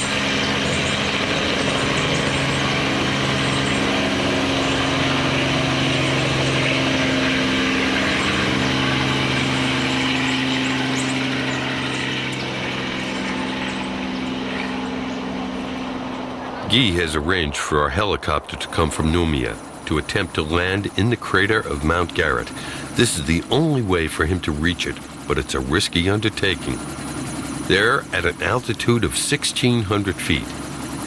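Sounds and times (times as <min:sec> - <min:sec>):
helicopter engine and rotor: 0:00.0 - 0:31.0.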